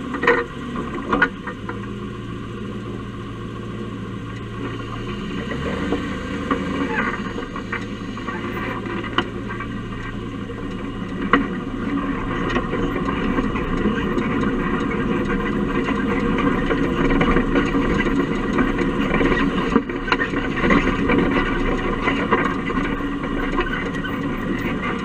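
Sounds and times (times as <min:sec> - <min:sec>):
vehicle engine and drivetrain: 0:00.0 - 0:25.0
sharp clicks and knocks: 0:00.1 - 0:01.9, 0:04.3 - 0:25.0.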